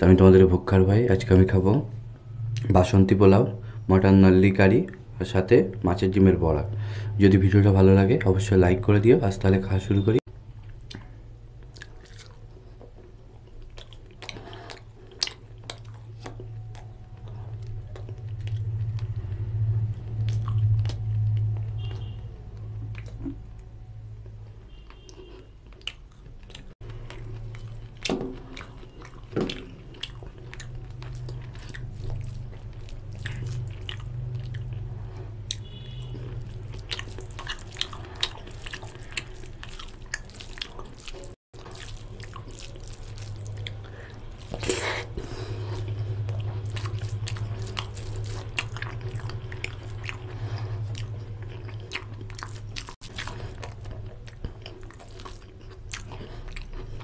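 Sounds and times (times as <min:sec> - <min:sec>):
person chewing food: 0:10.6 - 0:57.0.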